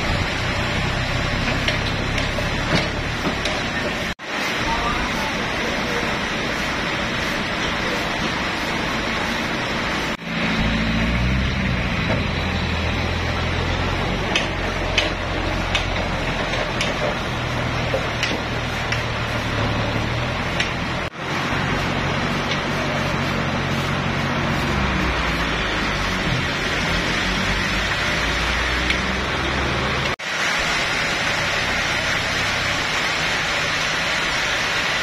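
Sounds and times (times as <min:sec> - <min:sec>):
forklift engine running: 0:00.0 - 0:35.0.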